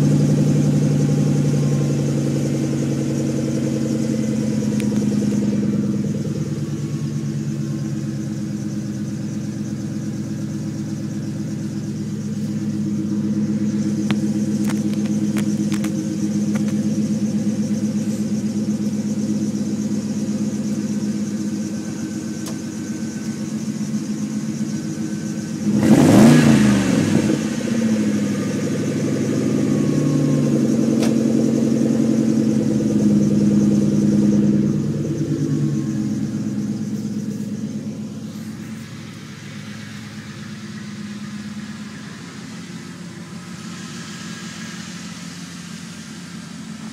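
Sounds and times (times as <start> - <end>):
car engine idling: 0.0 - 46.9
engine revving: 0.0 - 46.9.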